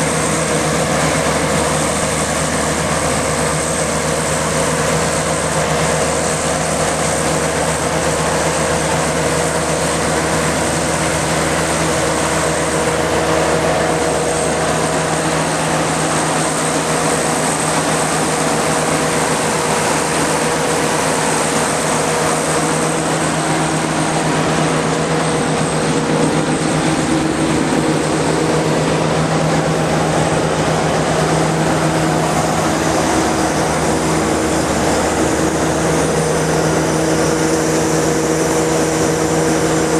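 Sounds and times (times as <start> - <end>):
motor drone: 0.0 - 39.9.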